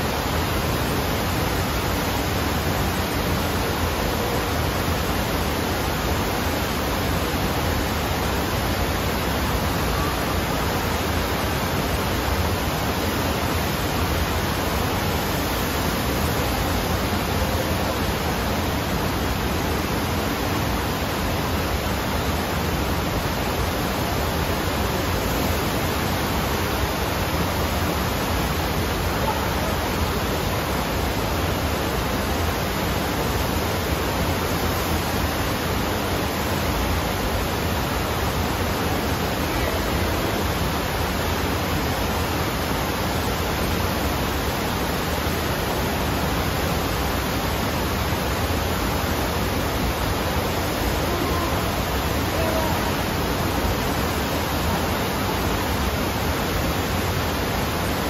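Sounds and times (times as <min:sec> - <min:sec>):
water rushing steadily: 0:00.0 - 0:58.0.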